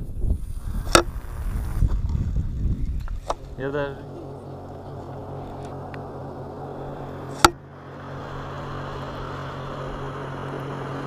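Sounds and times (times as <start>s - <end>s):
motorboat engine drone: 0.4s - 11.0s.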